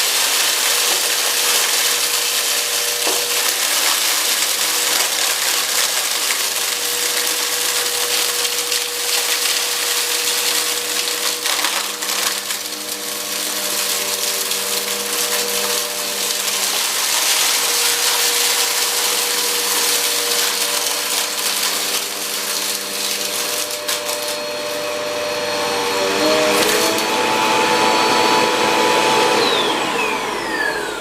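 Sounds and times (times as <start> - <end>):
debris rattling in vacuum hose: 0.0 - 30.6
vacuum cleaner motor hum: 0.0 - 31.0.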